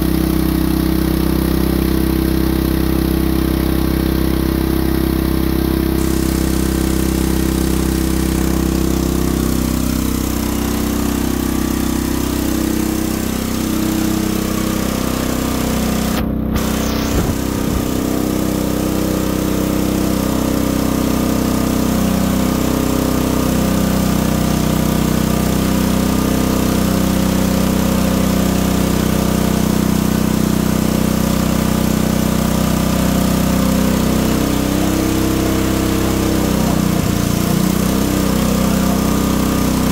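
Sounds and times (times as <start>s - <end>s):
portable generator engine running: 0.0s - 39.9s.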